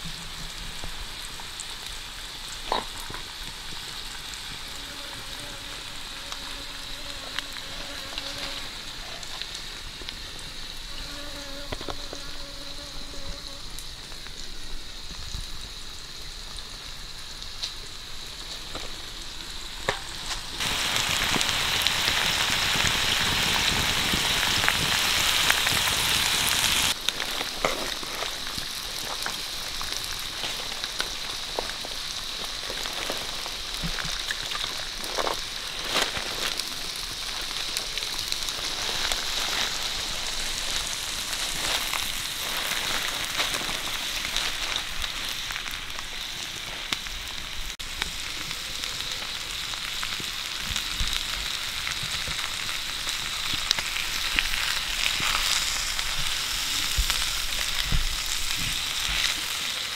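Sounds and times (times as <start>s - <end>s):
food sizzling on a hot stone: 0.0s - 59.9s.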